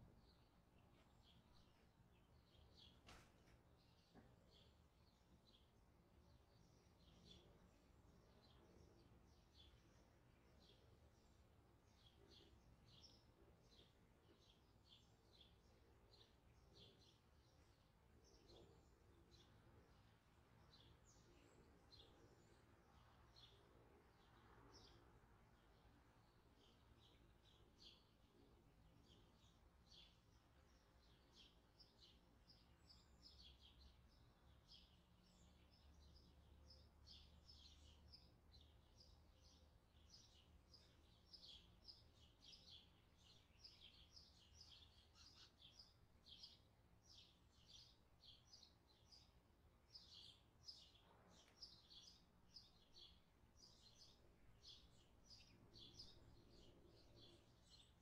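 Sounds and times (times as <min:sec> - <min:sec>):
small birds chirping rapidly: 0:00.0 - 0:58.0.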